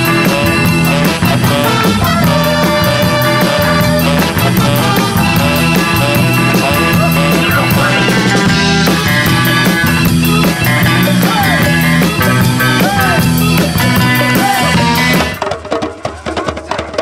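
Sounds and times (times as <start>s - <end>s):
rock song with singing: 0.0s - 15.4s.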